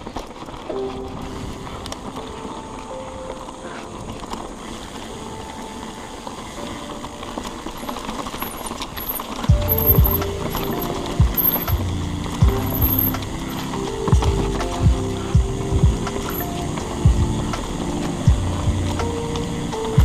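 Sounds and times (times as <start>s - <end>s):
bike tyres rolling on dirt: 0.0s - 20.0s
faint background music: 0.0s - 20.0s.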